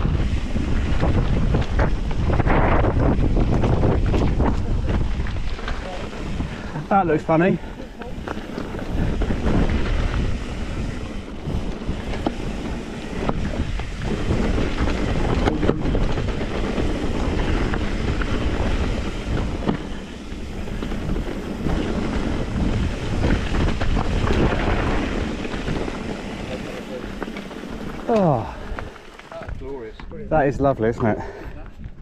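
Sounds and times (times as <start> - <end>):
bike rattling: 0.0 - 32.0
bike tyres on rocky trail: 0.0 - 32.0
wind buffeting microphone: 0.0 - 32.0.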